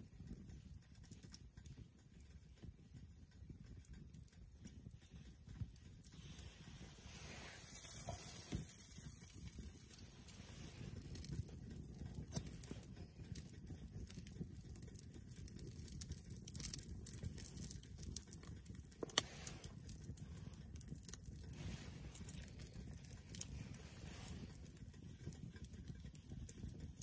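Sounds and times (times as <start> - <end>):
campfire crackling and popping: 0.0 - 27.0
low steady rumble: 0.0 - 27.0.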